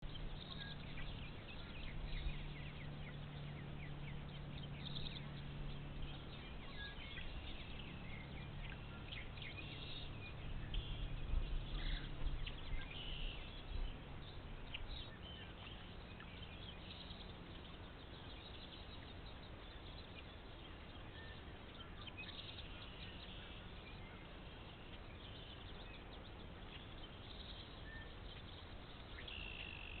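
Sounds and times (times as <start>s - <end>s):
ducklings peeping: 0.0s - 30.0s
faint low hum: 0.0s - 30.0s.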